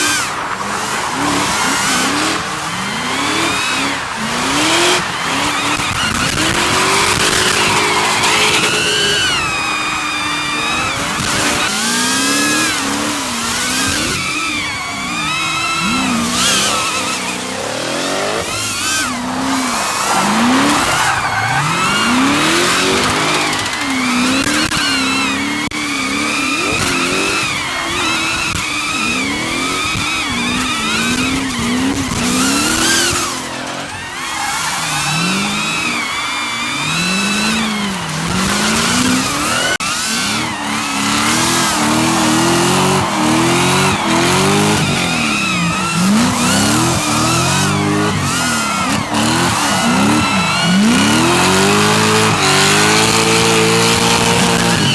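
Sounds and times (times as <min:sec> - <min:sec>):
car engines revving: 0:00.0 - 0:54.9
tyres squealing: 0:02.9 - 0:54.9.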